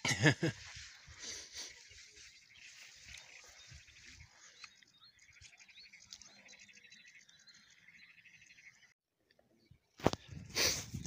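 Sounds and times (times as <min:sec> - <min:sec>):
small birds chirping: 0:00.2 - 0:11.0.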